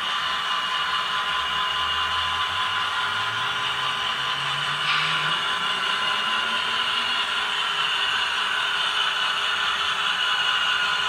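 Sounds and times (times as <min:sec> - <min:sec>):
model locomotive engine drone: 0:00.0 - 0:11.0.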